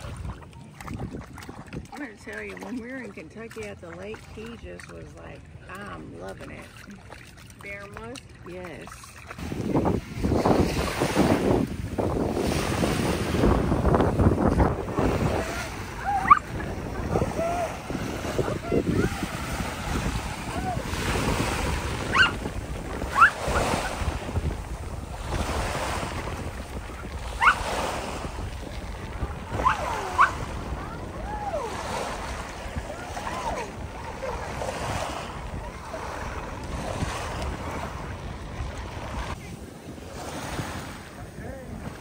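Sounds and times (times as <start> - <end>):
small waves breaking on shore: 0.0 - 42.0
wind buffeting microphone: 0.0 - 42.0.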